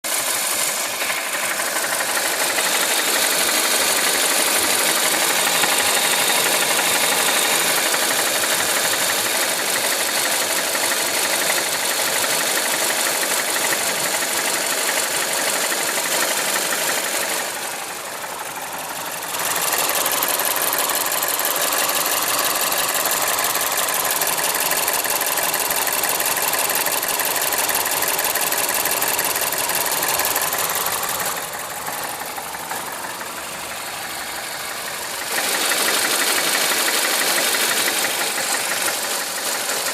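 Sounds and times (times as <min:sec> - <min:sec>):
car engine knocking: 0:00.1 - 0:39.9.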